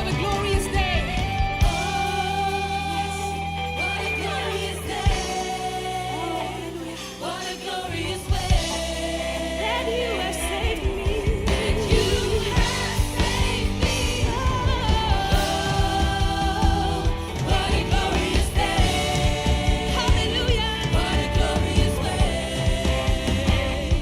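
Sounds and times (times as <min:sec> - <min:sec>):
drums and bass beat: 0:00.0 - 0:06.0, 0:07.9 - 0:24.0
gospel singing: 0:00.0 - 0:24.0.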